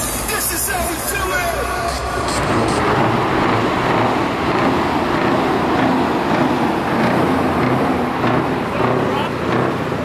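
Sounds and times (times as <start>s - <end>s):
truck engine running loudly: 0.0s - 10.0s.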